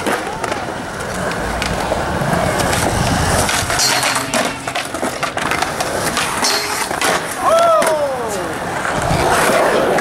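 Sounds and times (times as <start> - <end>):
skateboard clicks and knocks: 0.0 - 10.0
skateboard wheels rolling on concrete: 0.0 - 10.0.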